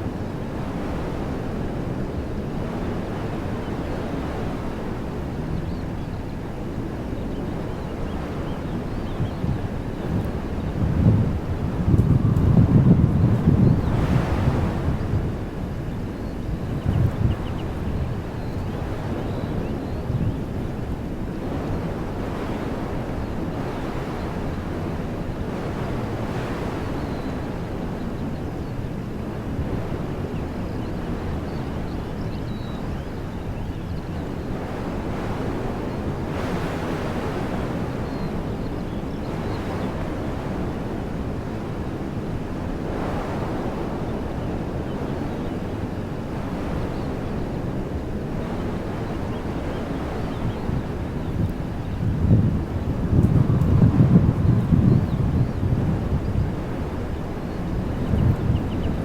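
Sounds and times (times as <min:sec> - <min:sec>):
wind blowing through trees: 0:00.0 - 0:59.0.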